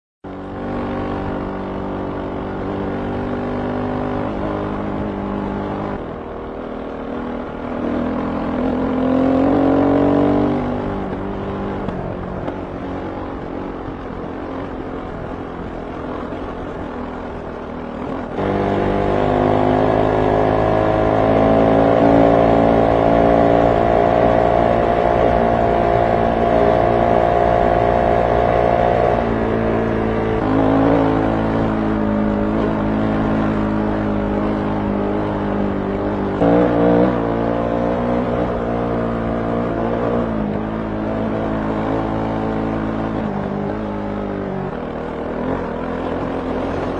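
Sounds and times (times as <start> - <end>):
motorcycle engine running hard: 0.3 - 46.9.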